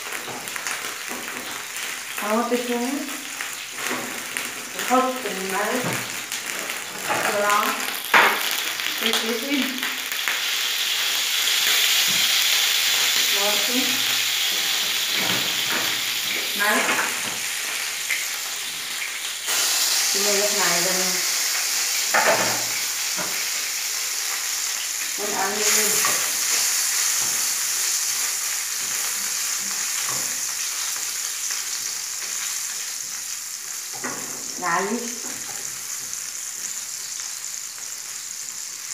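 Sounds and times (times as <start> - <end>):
sausage sizzling in a frying pan: 0.0 - 38.9.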